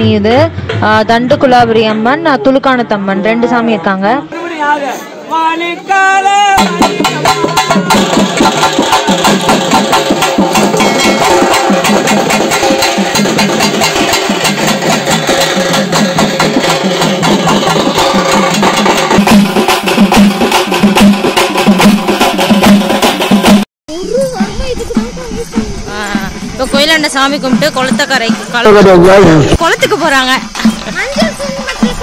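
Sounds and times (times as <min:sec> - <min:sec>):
drums played with sticks: 0:00.0 - 0:03.8, 0:06.0 - 0:32.0.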